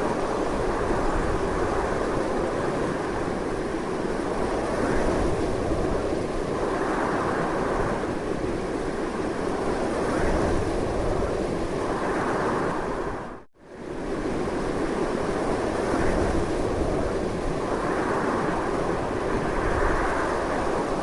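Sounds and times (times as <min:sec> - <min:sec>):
strong wind roaring: 0:00.0 - 0:21.0.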